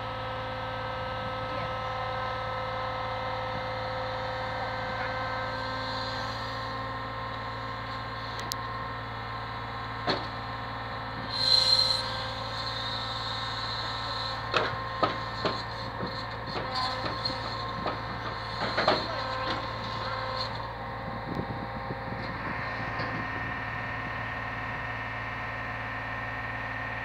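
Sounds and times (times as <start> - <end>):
lorry engine and crane droning: 0.0 - 27.0.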